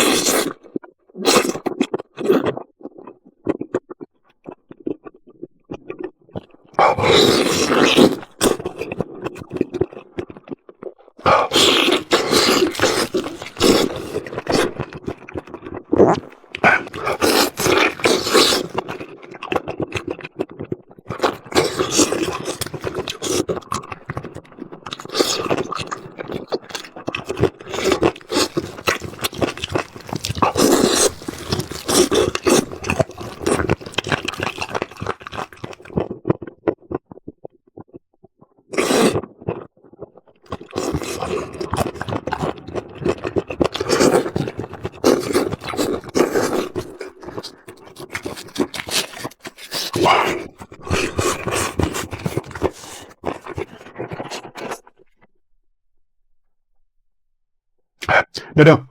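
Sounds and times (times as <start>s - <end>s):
person biting and chewing food: 0.0s - 55.3s.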